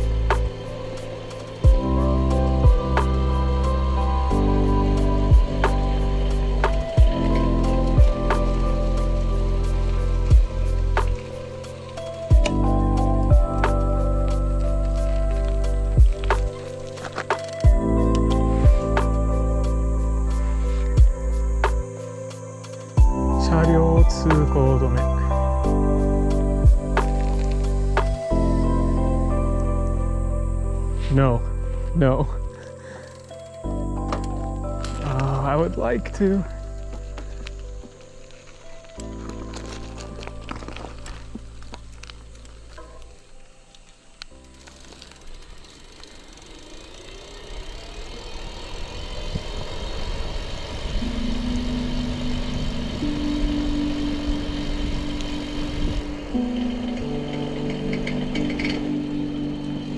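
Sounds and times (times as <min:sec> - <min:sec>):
motorcycle engine and road rumble: 0:00.0 - 0:59.9
sustained tone background music: 0:00.0 - 0:59.9.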